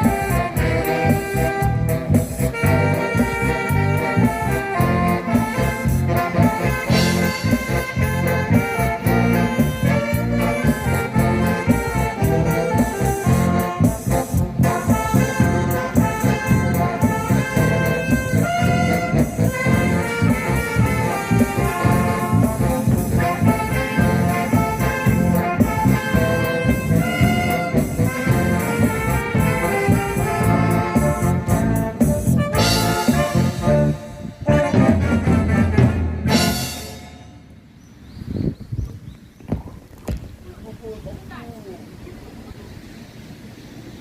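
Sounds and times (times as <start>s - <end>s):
brass-like melody over steady beat: 0.0s - 37.8s.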